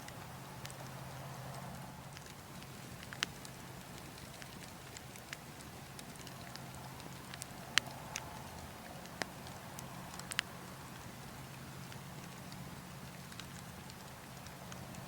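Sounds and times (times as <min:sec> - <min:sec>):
burning logs crackling: 0:00.0 - 0:15.0
low rush of wind: 0:00.0 - 0:15.0.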